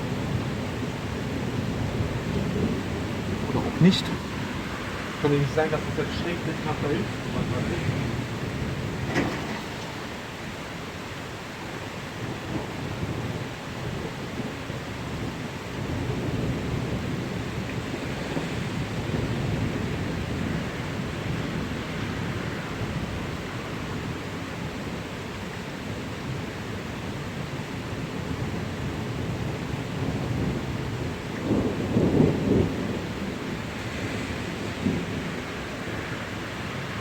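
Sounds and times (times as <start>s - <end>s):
low rolling thunder: 0.0s - 25.2s, 26.0s - 37.0s
steady rain: 0.0s - 37.0s.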